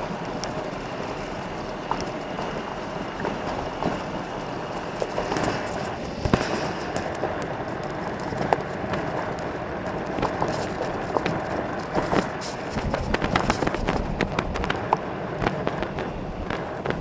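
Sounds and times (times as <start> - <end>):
tyres crunching on gravel: 0.0 - 17.0.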